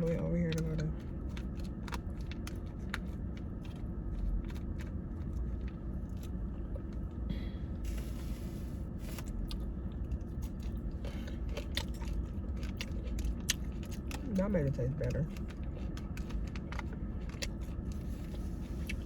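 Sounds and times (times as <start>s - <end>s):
chewing crunchy salad: 0.0s - 7.3s, 9.0s - 19.0s
steady low hum: 0.0s - 19.0s.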